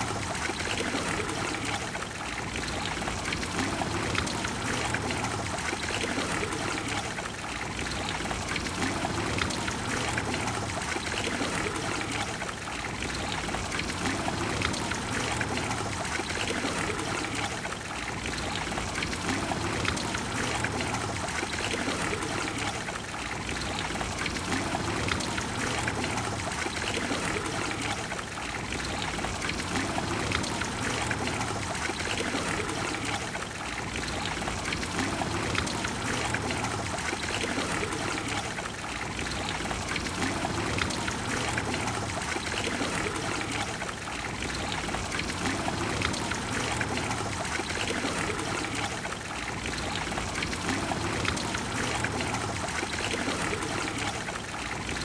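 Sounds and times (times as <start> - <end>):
fountain water rushing and splashing: 0.0 - 55.0.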